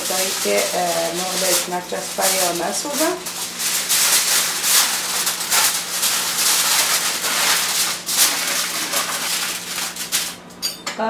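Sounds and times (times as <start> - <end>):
aluminium foil crinkling: 0.0 - 10.6.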